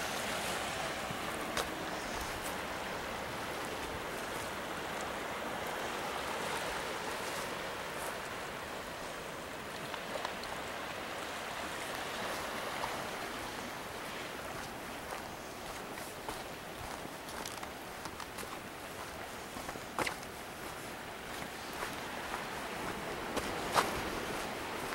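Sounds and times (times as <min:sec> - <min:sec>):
surf on rocky shoreline: 0:00.0 - 0:24.9.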